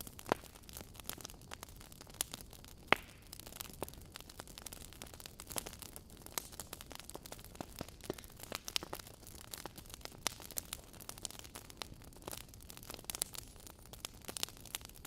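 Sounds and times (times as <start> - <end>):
logs crackling and popping: 0.0 - 15.0.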